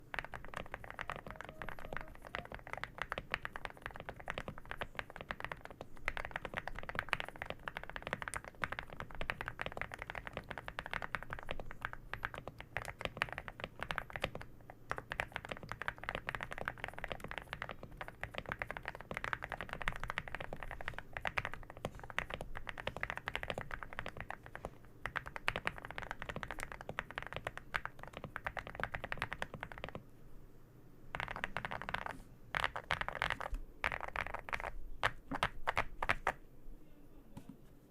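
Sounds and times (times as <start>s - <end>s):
mechanical keyboard typing: 0.0s - 30.0s, 31.1s - 36.4s.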